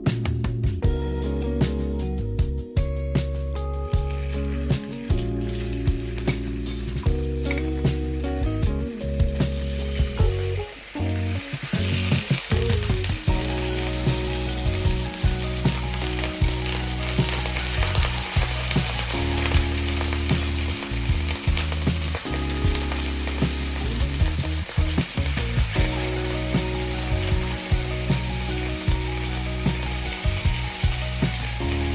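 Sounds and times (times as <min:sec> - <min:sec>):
background music with bass line: 0:00.0 - 0:31.9
food sizzling in a pan: 0:04.1 - 0:31.9.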